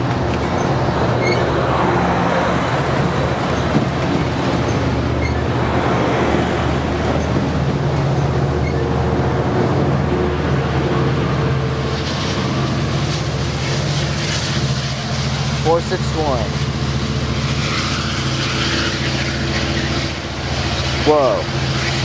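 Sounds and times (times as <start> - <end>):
diesel locomotive droning: 0.0 - 22.0
rolling rail noise: 0.0 - 22.0.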